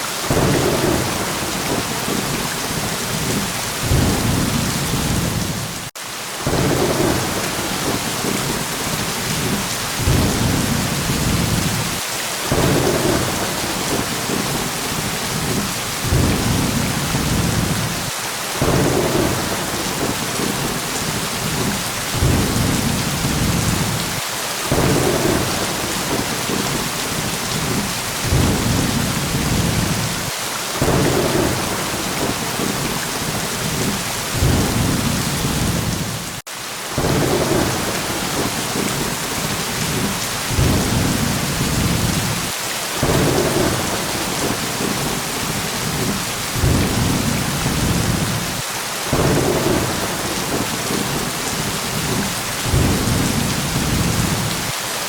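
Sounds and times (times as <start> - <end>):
heavy rain: 0.0 - 55.0
low thunder rumbles: 0.3 - 36.4, 37.0 - 54.7.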